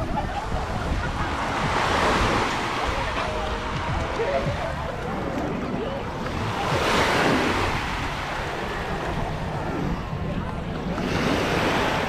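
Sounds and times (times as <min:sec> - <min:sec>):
surf breaking on beach: 0:00.0 - 0:10.2
wind rumbling on microphone: 0:00.0 - 0:12.0.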